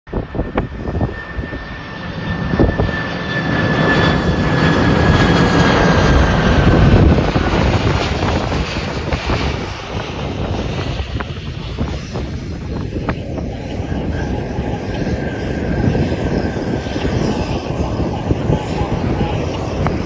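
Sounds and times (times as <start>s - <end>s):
airplane passing by: 0.1s - 20.0s.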